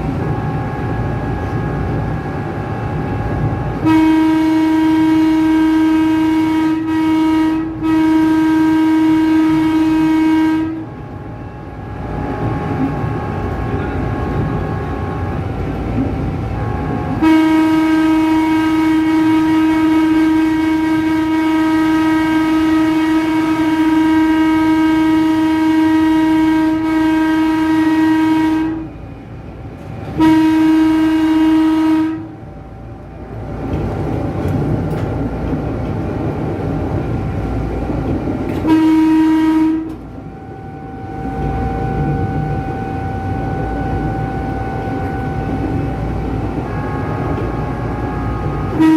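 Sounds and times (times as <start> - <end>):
electric train horn blasts: 0.0 - 29.0, 30.0 - 33.2, 37.2 - 48.9
rail running noise: 0.0 - 48.9.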